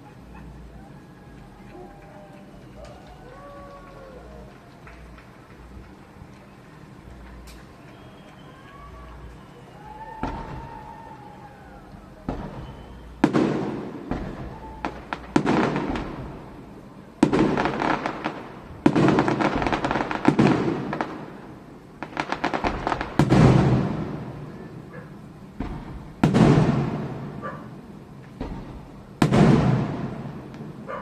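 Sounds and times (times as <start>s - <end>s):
fireworks crackling: 0.0s - 31.0s
fireworks bursting with bangs: 1.8s - 31.0s.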